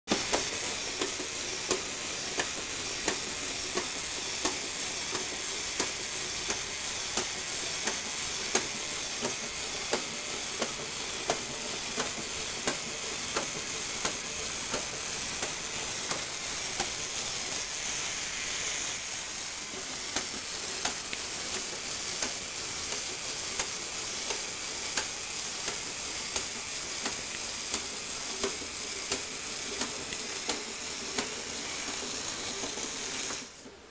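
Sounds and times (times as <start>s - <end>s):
motor and plastic gears whirring: 0.1s - 33.8s.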